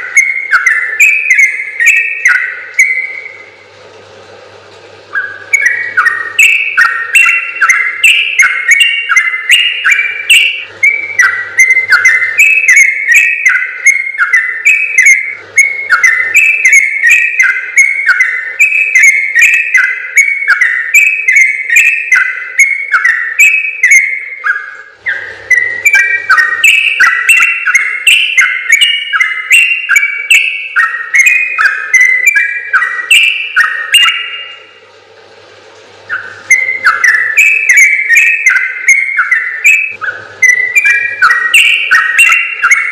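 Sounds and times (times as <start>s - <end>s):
bird singing whistled notes: 0.0s - 3.6s, 5.1s - 34.8s, 36.0s - 42.9s.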